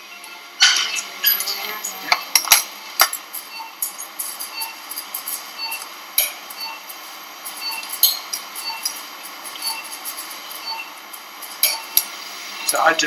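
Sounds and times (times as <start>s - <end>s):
metal instruments clinking: 0.6s - 13.0s.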